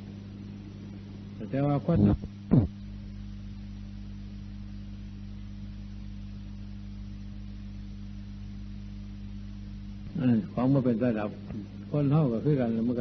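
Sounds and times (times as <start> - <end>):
layered electrical hum: 0.0 - 13.0.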